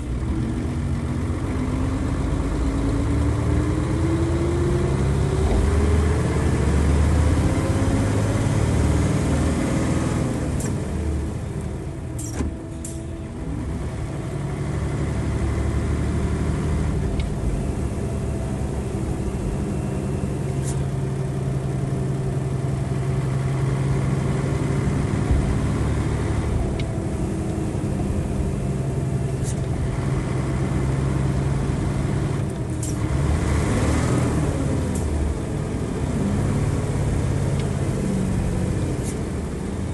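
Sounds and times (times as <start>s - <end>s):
bus diesel engine revving: 0.0s - 39.9s.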